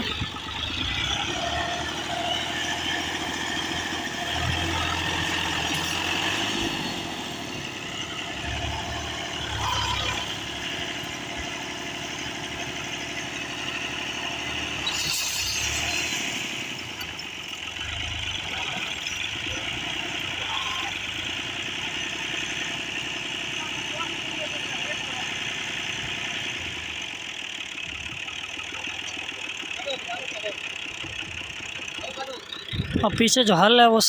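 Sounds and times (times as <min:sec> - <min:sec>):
tractor diesel engine revving: 0:00.0 - 0:34.0.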